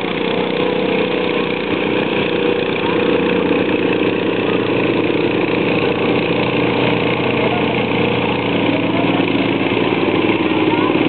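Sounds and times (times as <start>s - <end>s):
garden tractor engine running: 0.0s - 11.0s.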